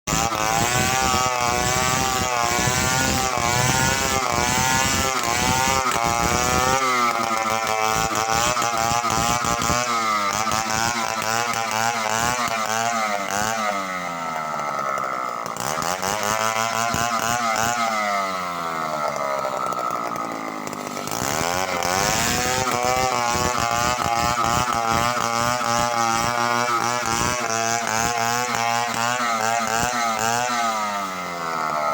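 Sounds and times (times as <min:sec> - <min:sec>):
chainsaw cutting timber: 0:00.1 - 0:31.9.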